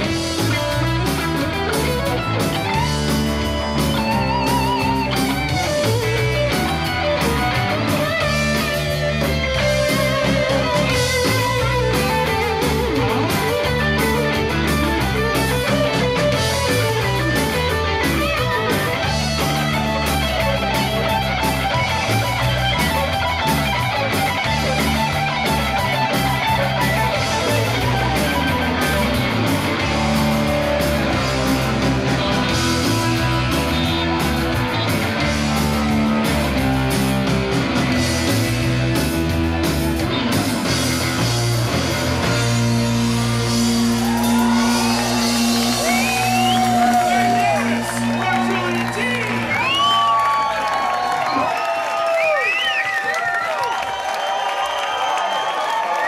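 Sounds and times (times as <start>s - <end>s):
lead guitar bending notes: 0.0s - 48.7s
live rock band: 0.0s - 56.0s.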